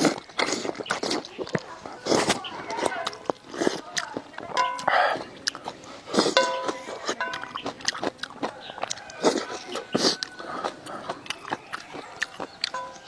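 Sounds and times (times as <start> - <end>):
biting and chewing food: 0.0 - 13.0
wet mouth clicks and smacks: 0.0 - 13.0.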